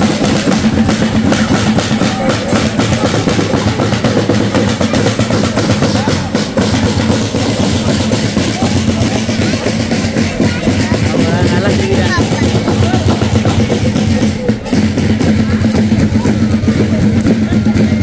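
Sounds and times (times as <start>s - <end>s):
snare and bass drums beating: 0.0s - 18.0s.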